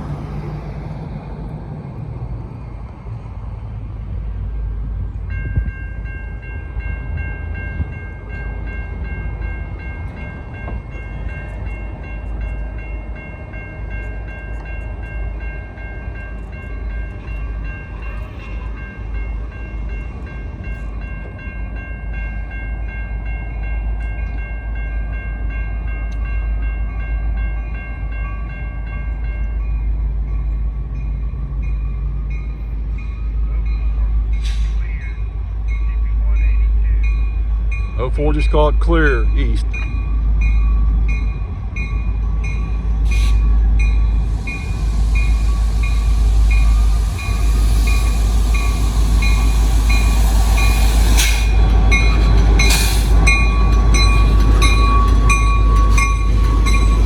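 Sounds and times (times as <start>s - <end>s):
low train rumble: 0.0s - 57.0s
crossing warning bell ringing: 4.4s - 57.0s.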